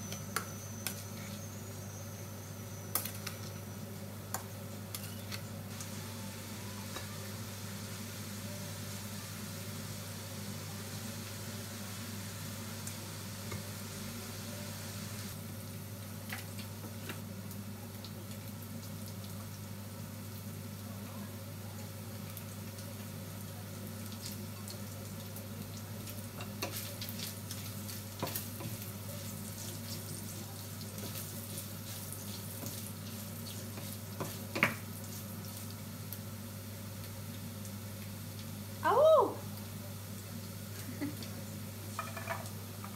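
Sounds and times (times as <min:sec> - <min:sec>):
food sizzling in a pan: 0:00.0 - 0:42.9.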